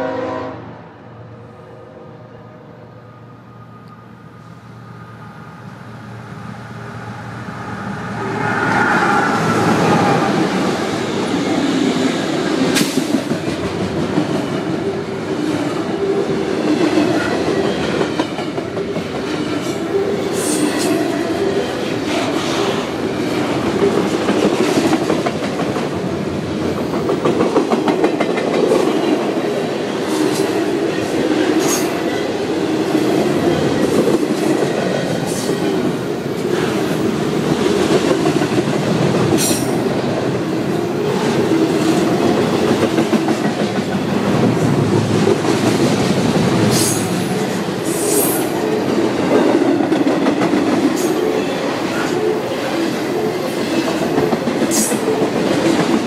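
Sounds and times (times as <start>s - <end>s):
train wheels rumbling on rails: 4.4s - 56.0s.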